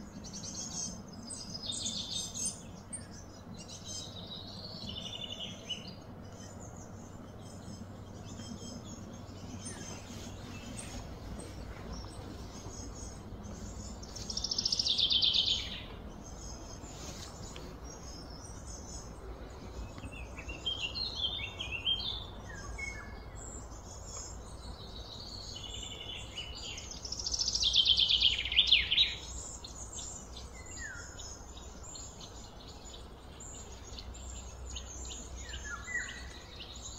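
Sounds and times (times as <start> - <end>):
birds chirping and calling: 0.0 - 36.9
low background noise: 0.0 - 36.9.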